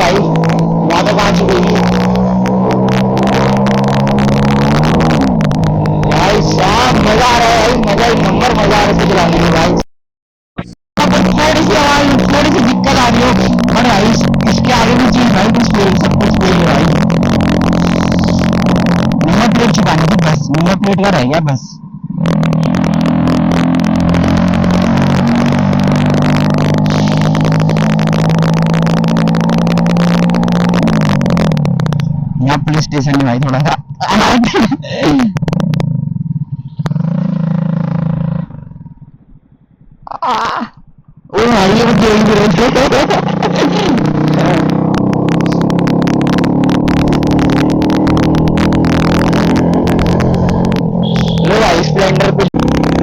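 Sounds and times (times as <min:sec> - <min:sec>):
motorcycle engine running loud: 0:00.0 - 0:09.9, 0:10.6 - 0:53.0.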